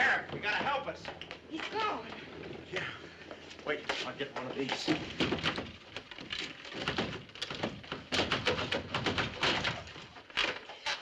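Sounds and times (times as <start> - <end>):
rifles clattering against wooden rack: 0.0 - 2.2, 3.2 - 11.0.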